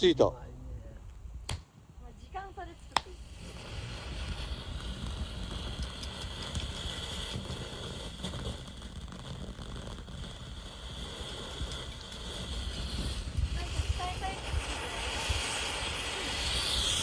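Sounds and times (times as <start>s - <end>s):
firework crackles: 1.1s - 17.0s
firework hissing: 1.3s - 17.0s.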